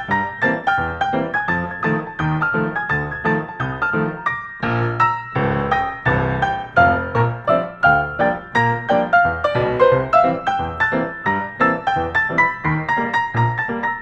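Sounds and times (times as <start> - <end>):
piano playing quick notes: 0.0 - 14.0.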